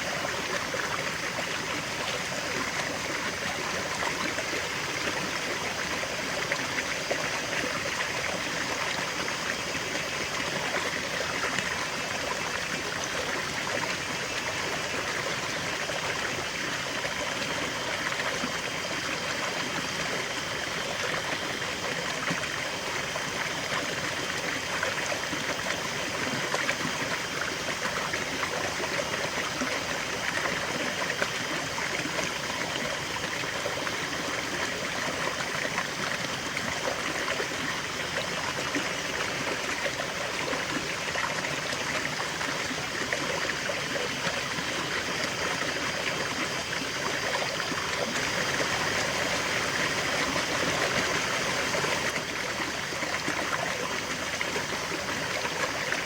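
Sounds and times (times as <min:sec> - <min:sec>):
river water flowing over stones: 0:00.0 - 0:56.0.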